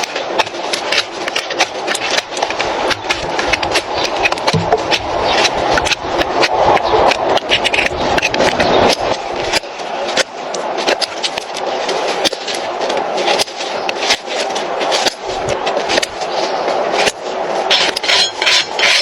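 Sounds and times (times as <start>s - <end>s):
hand tools scraping hoof: 0.0s - 19.0s.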